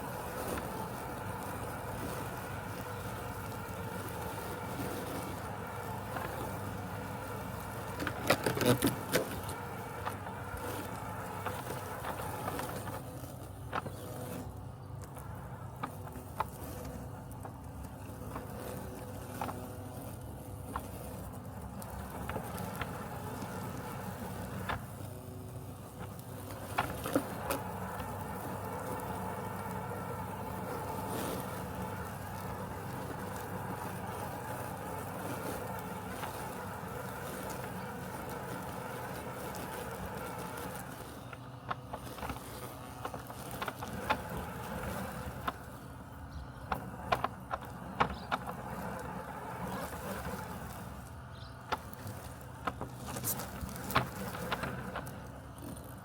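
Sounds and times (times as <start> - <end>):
robotic lawn mower humming: 0.0 - 56.0.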